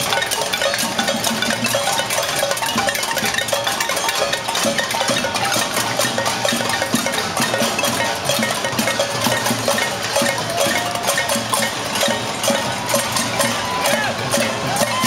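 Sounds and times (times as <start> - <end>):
pots and pans being struck: 0.0 - 15.0.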